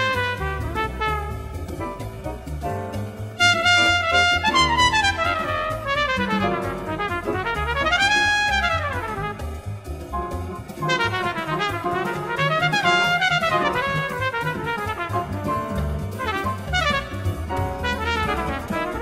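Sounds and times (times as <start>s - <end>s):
trumpet playing quick runs: 0.0s - 2.2s, 3.2s - 9.8s, 10.8s - 19.0s
bass: 0.0s - 19.0s
drums: 0.0s - 19.0s.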